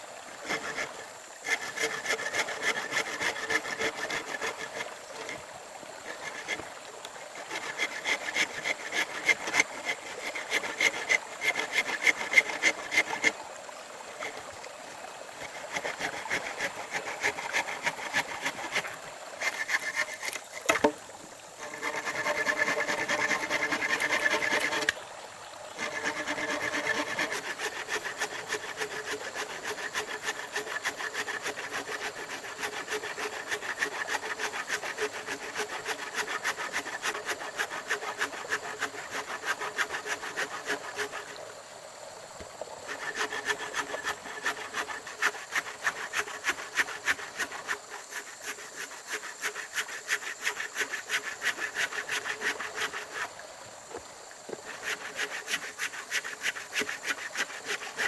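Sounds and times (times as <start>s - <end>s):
hand saw cutting wood: 0.4s - 13.4s, 14.2s - 14.5s, 15.4s - 21.0s, 21.6s - 25.0s, 25.8s - 41.4s, 42.9s - 53.4s, 54.5s - 58.0s.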